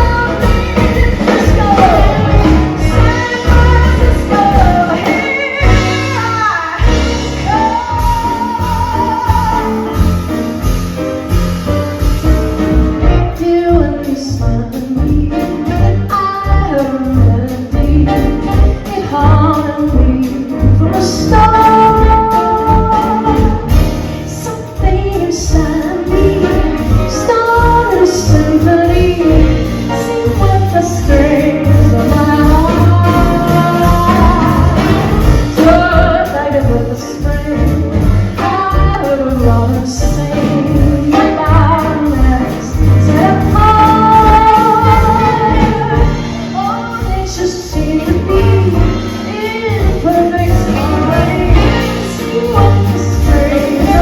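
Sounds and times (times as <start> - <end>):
woman singing: 0.0 - 10.3, 13.0 - 54.0
band accompaniment: 0.0 - 54.0.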